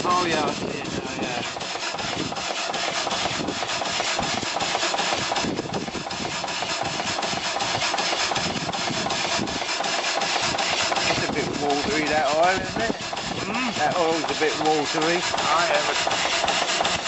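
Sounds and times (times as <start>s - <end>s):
steam engine clattering: 0.0s - 17.0s.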